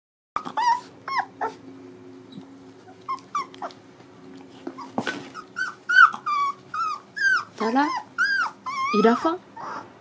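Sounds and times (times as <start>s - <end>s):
puppies whimpering: 0.4s - 1.7s, 2.3s - 3.9s, 4.7s - 10.0s.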